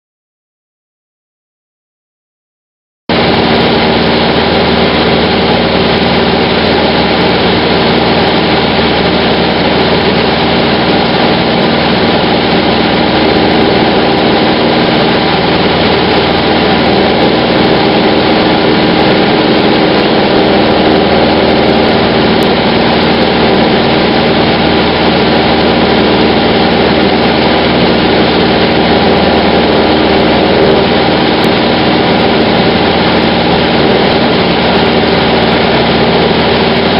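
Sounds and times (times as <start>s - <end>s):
light aircraft engine in cabin: 3.1s - 36.9s.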